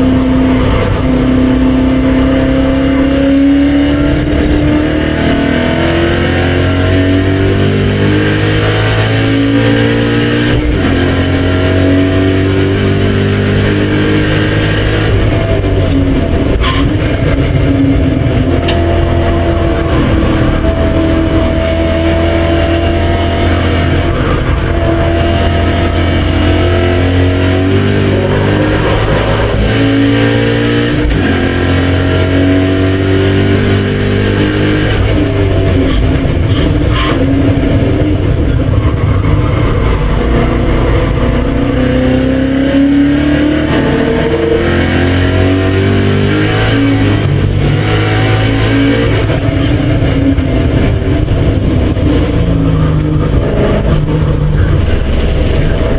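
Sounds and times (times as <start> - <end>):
car engine revving through gears: 0.0 - 55.9.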